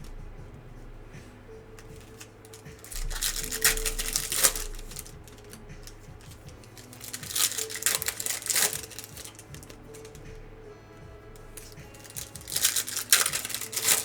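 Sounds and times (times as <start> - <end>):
faint background music: 0.0 - 14.0
card pack wrappers crinkling: 1.6 - 10.6, 11.2 - 14.0.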